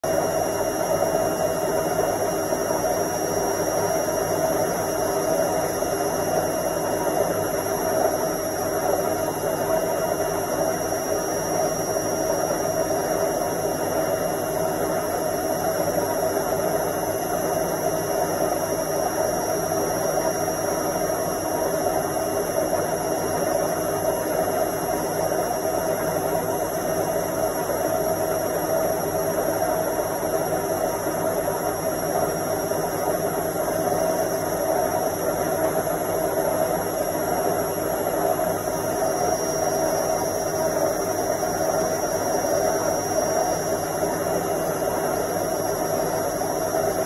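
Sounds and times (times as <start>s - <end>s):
washing machine spinning: 0.0s - 47.0s.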